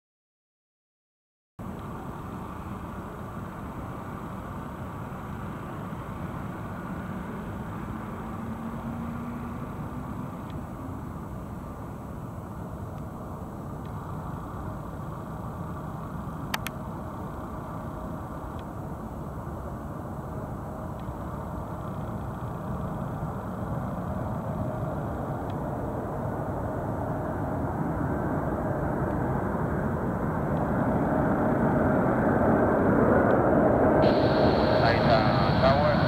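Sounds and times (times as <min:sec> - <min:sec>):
jet engines rumbling with whine: 0:01.6 - 0:36.0.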